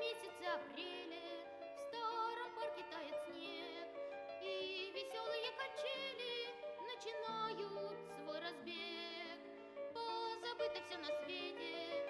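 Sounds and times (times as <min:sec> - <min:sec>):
song with vibrato singing: 0:00.0 - 0:12.0.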